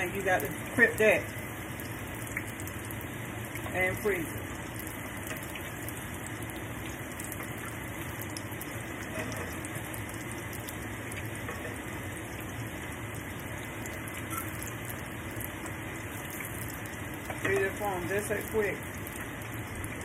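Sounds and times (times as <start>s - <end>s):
oil bubbling and crackling: 0.0s - 20.0s.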